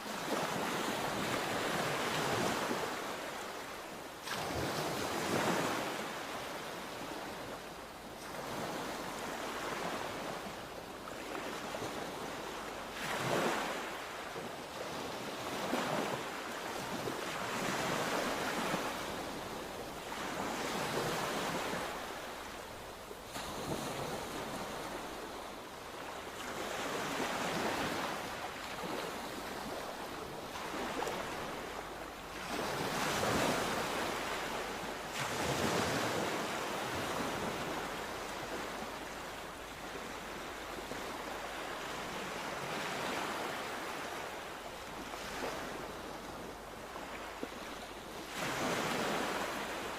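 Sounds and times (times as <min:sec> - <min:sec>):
sea waves breaking on shore: 0:00.0 - 0:49.9.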